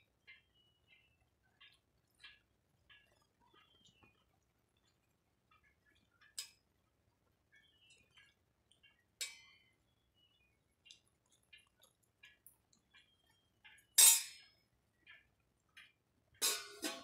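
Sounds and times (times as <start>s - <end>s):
faint clicks and taps: 0.2s - 14.0s, 14.9s - 16.4s.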